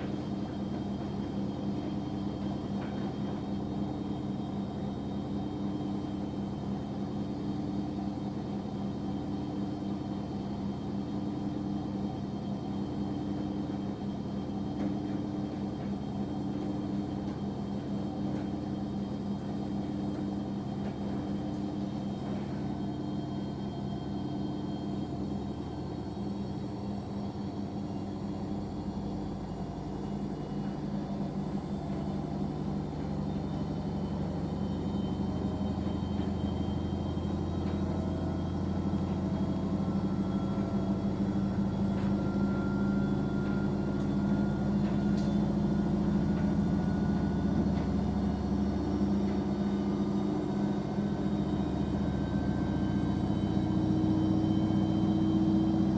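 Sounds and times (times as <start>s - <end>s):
washing machine motor hum: 0.0s - 55.9s.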